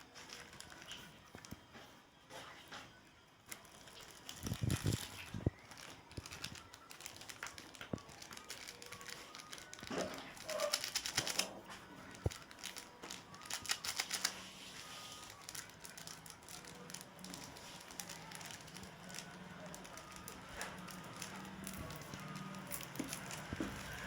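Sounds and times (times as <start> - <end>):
snack wrappers crackling: 0.0 - 24.0.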